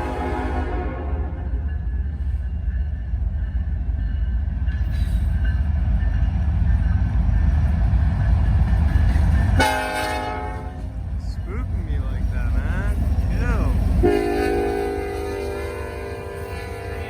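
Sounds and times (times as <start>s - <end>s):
diesel locomotives rumbling: 0.0s - 17.0s
hissy rail noise: 1.4s - 17.0s.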